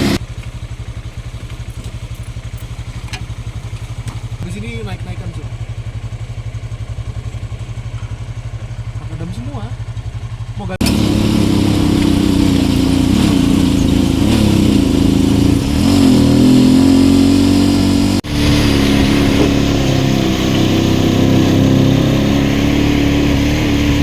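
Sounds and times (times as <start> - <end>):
motorcycle engine under load: 0.0 - 24.0.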